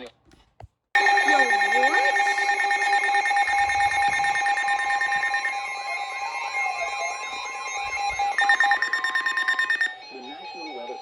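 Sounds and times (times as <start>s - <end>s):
electronic alert tone with pulse: 1.0s - 11.0s.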